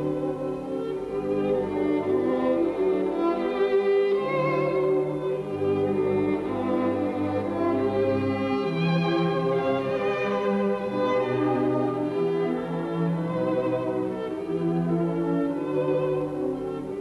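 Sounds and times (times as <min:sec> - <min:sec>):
string music with violin melody: 0:00.0 - 0:17.0.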